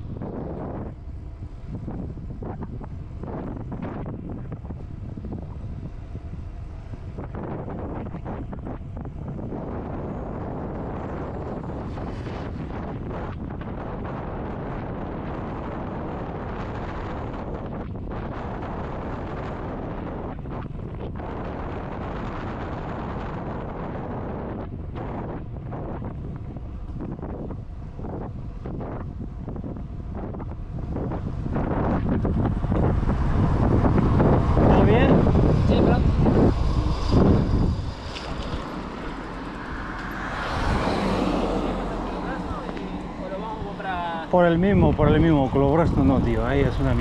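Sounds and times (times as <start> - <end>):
vehicle road noise: 0.0 - 47.0
wind buffeting microphone: 0.0 - 47.0.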